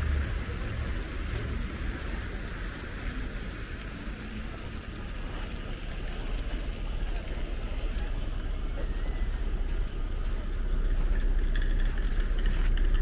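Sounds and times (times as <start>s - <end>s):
background traffic hum: 0.0s - 13.0s
vehicle rumble: 0.0s - 13.0s.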